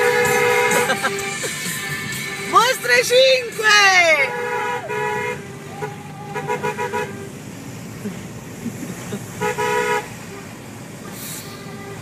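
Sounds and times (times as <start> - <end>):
car horn honking: 0.0 - 8.4, 9.2 - 12.0
road noise of moving car: 0.0 - 12.0.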